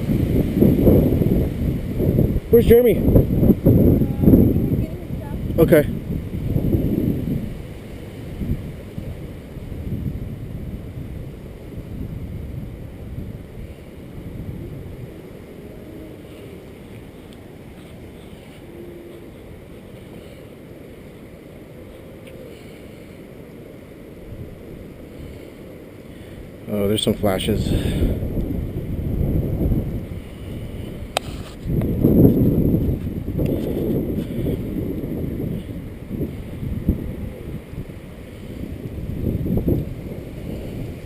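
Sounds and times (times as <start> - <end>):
wind gusting on microphone: 0.0 - 41.0.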